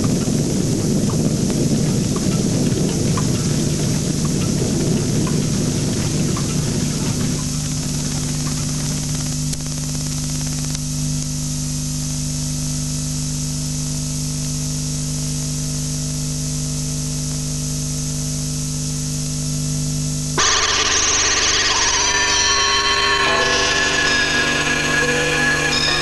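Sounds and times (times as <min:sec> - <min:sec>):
low electrical hum: 0:00.0 - 0:26.0
tape hiss: 0:00.0 - 0:26.0.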